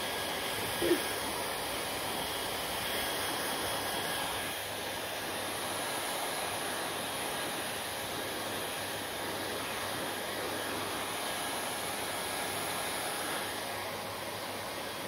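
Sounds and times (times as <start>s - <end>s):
hair dryer blowing: 0.0s - 15.0s.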